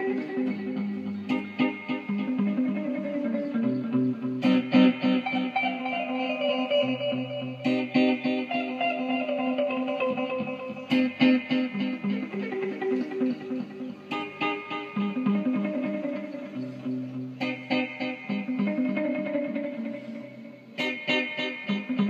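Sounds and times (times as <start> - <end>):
guitar background music: 0.0 - 22.0.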